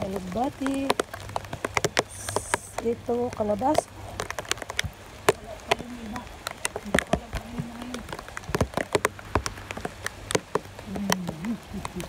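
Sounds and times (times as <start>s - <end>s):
rain dripping on hard surfaces: 0.0s - 12.0s.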